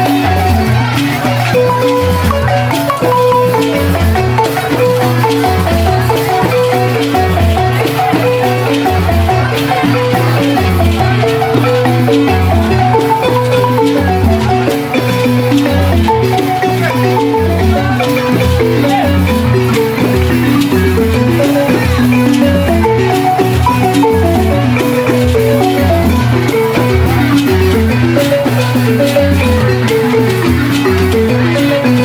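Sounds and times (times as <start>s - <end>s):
balafon music: 0.0s - 32.0s.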